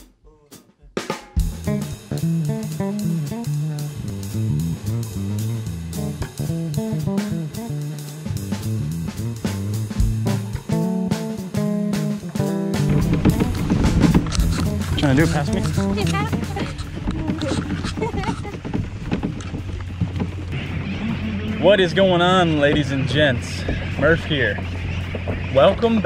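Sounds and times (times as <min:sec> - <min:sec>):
band music with guitar and drums: 0:01.1 - 0:26.0.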